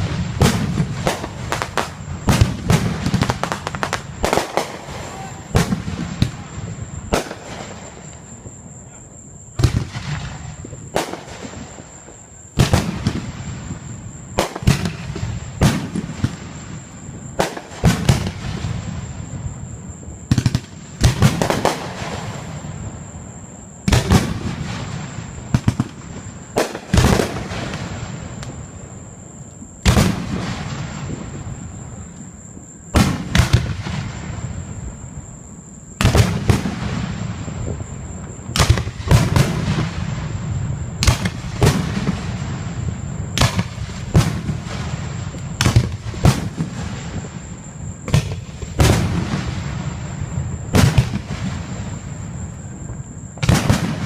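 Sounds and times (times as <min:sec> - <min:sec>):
fireworks bangs with echo: 0:00.0 - 0:08.6, 0:09.6 - 0:19.4, 0:20.2 - 0:23.1, 0:23.8 - 0:28.8, 0:29.8 - 0:31.7, 0:32.9 - 0:34.8, 0:36.0 - 0:54.0.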